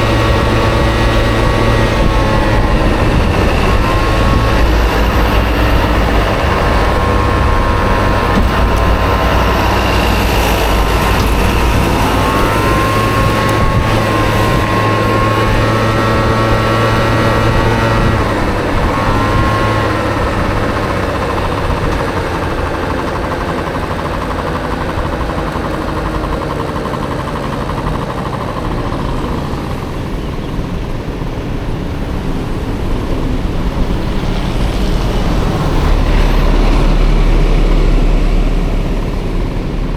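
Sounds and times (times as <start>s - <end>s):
road noise: 0.0s - 39.9s
scooter engine running: 0.0s - 39.9s.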